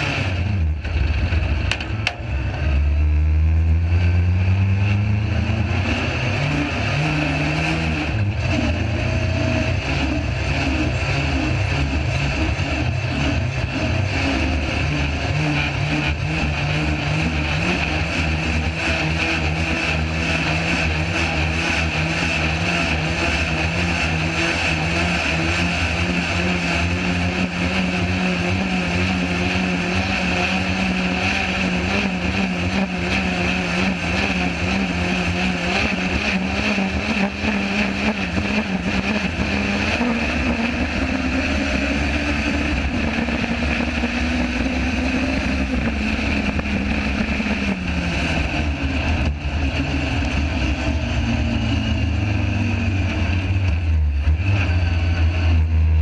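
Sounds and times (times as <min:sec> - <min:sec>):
turbocharged engine running: 0:00.0 - 0:56.0.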